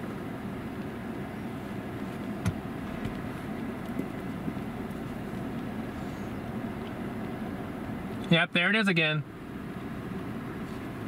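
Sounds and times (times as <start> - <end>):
stationary vehicle rumble: 0.0 - 11.0.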